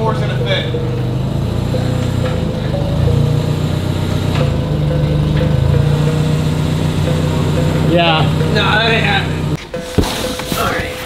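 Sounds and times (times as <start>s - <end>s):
forklift engine running: 0.0s - 10.6s
background music: 0.0s - 11.0s.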